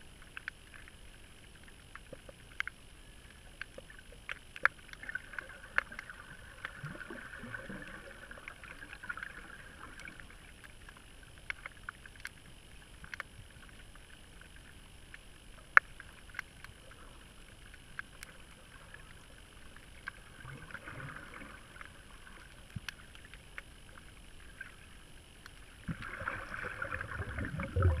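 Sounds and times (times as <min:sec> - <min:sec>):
underwater wash: 0:00.0 - 0:28.0
sharp underwater clicks: 0:00.1 - 0:07.2, 0:08.4 - 0:24.8, 0:25.4 - 0:28.0.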